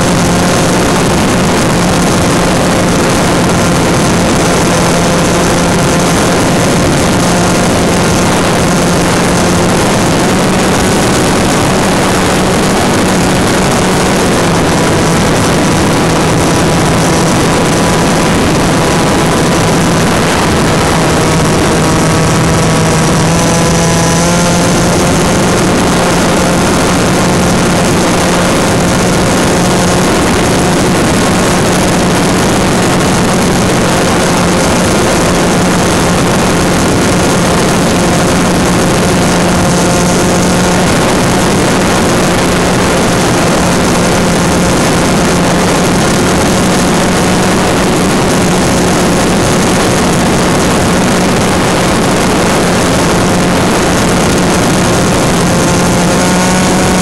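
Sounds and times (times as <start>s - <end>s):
electric motor propeller drone: 0.0s - 57.0s
rushing air noise: 0.0s - 57.0s.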